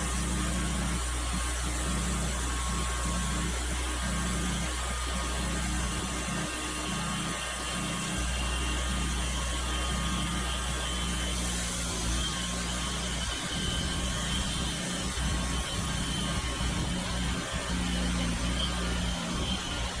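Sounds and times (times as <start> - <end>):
sawmill engine humming: 0.0 - 20.0.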